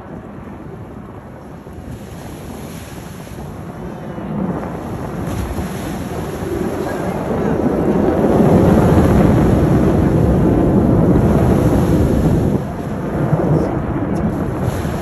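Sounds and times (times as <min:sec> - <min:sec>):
distant jet noise: 0:00.0 - 0:15.0
wind buffeting microphone: 0:00.0 - 0:15.0.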